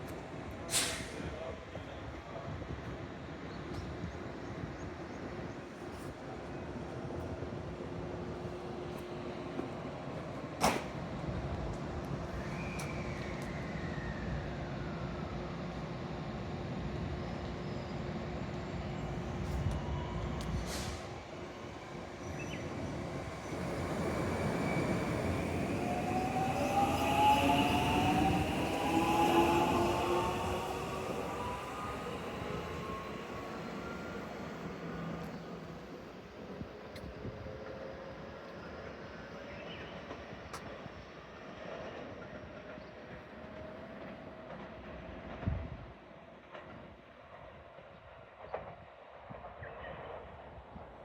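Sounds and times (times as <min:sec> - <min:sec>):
electric train rumbling: 0:06.6 - 0:48.6.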